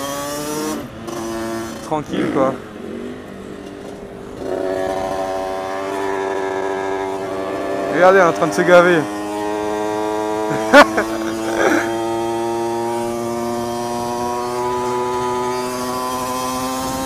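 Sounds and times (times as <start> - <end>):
small motorcycle engine buzzing: 0.0 - 17.0.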